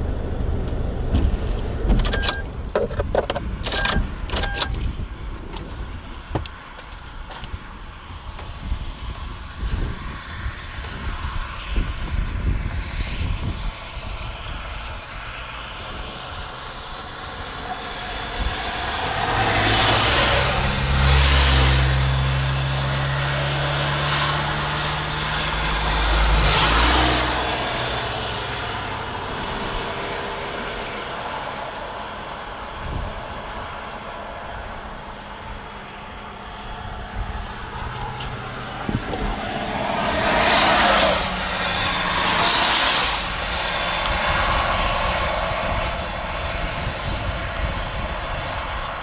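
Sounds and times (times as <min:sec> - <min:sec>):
wind buffeting microphone: 0:00.0 - 0:49.0
vehicle passing by: 0:07.7 - 0:49.0.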